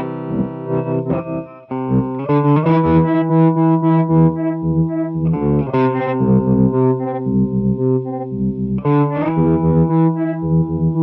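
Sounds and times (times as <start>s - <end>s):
distorted electric guitar chords: 0.0s - 11.0s.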